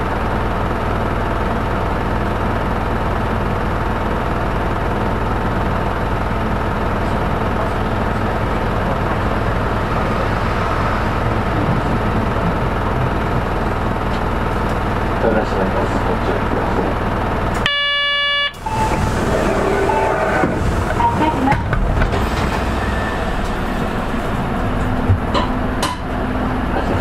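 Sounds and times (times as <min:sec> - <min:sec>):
road rumble: 0:00.0 - 0:17.7, 0:18.5 - 0:27.0
bus engine drone: 0:00.0 - 0:27.0.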